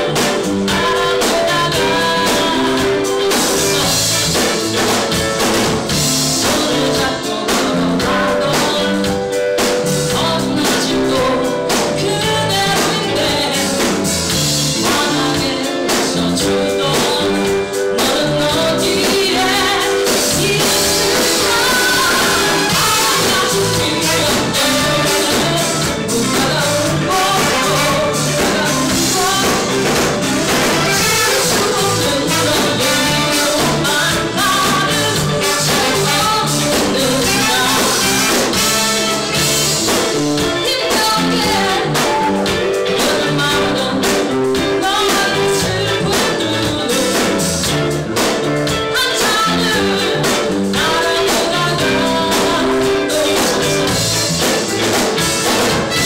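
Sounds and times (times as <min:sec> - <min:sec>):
drum kit: 0:00.0 - 0:56.0
electric guitar: 0:00.0 - 0:56.0
woman singing lead: 0:00.0 - 0:56.0.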